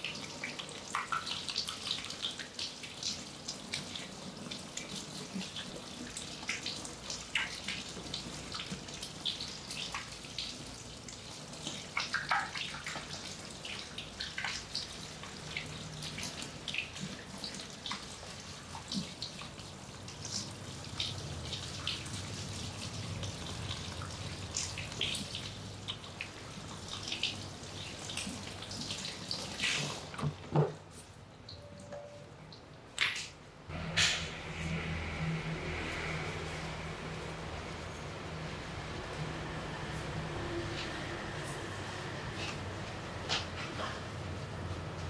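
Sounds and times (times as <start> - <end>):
shower water spraying on hair: 0.0 - 30.2, 34.0 - 43.6.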